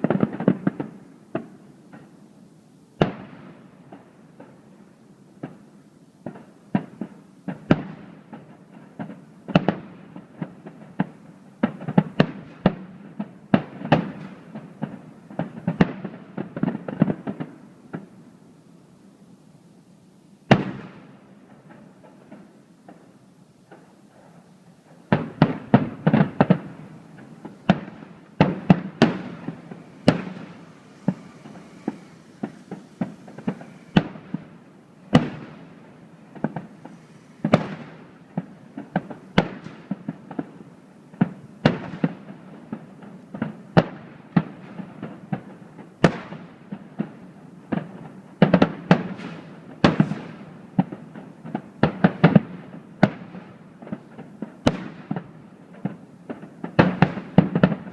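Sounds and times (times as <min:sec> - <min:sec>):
fireworks bangs with rumbling echoes: 0:00.0 - 0:02.3, 0:03.0 - 0:18.5, 0:20.4 - 0:57.9.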